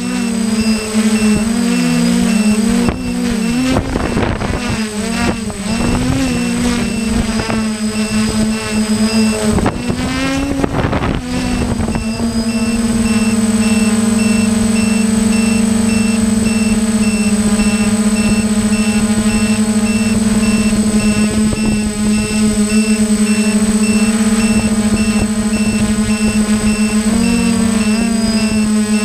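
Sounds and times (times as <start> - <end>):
drone propellers humming: 0.0 - 29.0.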